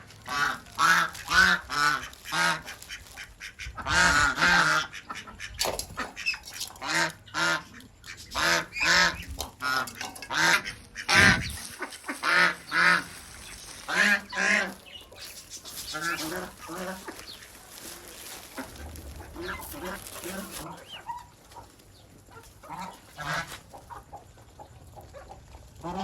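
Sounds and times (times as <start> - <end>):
ducks quacking: 0.2 - 24.2, 25.0 - 26.0.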